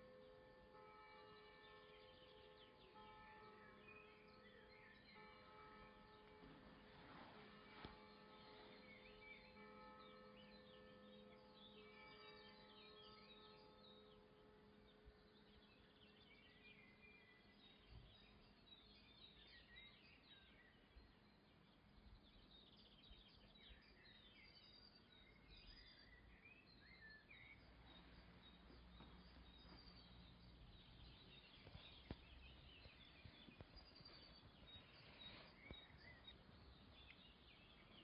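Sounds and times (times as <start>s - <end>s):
faint bird chirping: 1.4s - 38.0s.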